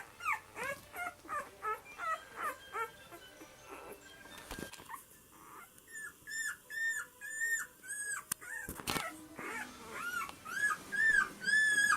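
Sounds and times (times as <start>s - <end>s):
dog whining: 0.0s - 3.0s, 3.7s - 4.1s, 4.7s - 11.9s.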